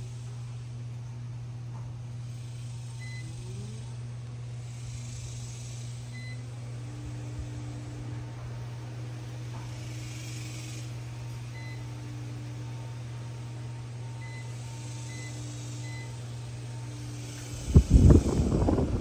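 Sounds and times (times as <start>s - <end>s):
fan humming: 0.0s - 19.0s.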